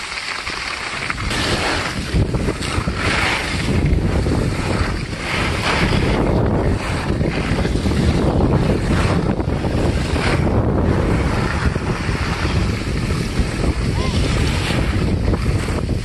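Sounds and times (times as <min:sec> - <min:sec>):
skis scraping over packed snow: 0:00.0 - 0:16.0
wind buffeting microphone: 0:01.0 - 0:16.0.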